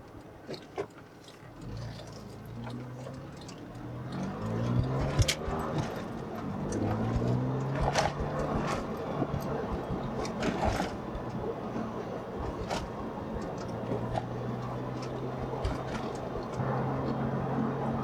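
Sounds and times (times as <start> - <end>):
car engine accelerating: 1.6 - 18.0.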